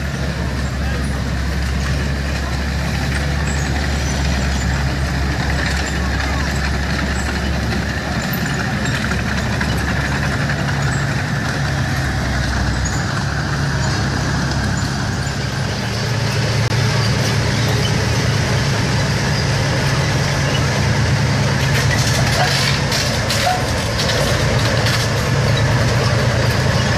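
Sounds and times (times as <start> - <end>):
mechanical rumble: 0.0 - 26.9
tank engines humming: 0.0 - 26.9.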